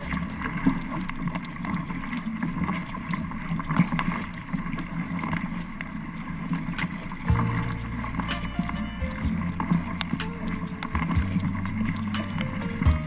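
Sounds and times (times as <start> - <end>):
water splashing against boat bow: 0.0 - 13.0.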